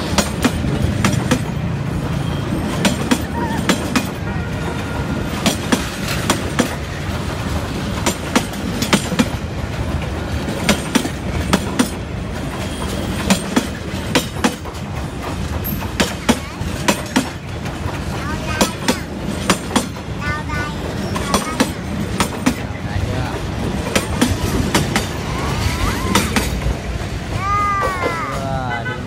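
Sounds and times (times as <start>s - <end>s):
train rumbling past: 0.0s - 29.0s
wheels clacking over rail joints: 0.0s - 29.0s.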